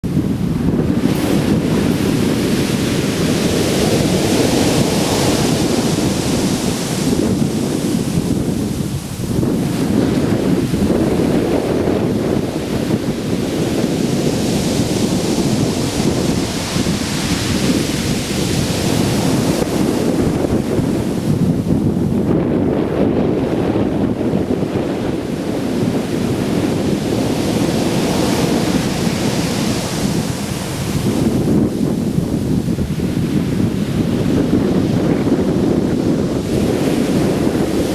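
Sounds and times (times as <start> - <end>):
sea surf on shore: 0.0 - 37.9
wind buffeting microphone: 0.0 - 37.9
hissing rush of water: 1.0 - 21.8, 25.2 - 37.9.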